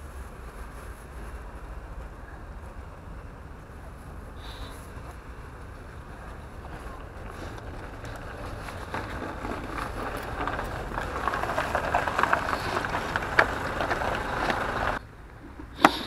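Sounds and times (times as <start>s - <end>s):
truck engine running: 1.8s - 16.0s.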